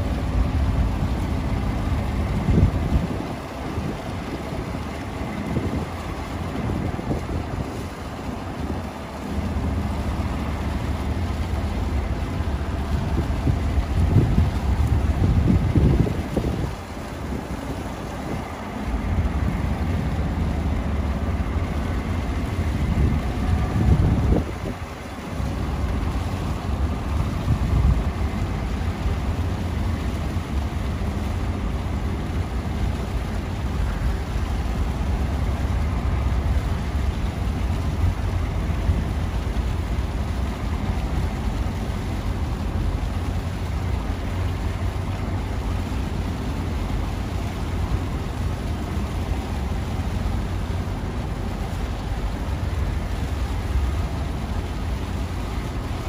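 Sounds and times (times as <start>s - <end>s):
low rumbling background noise: 0.0s - 56.0s.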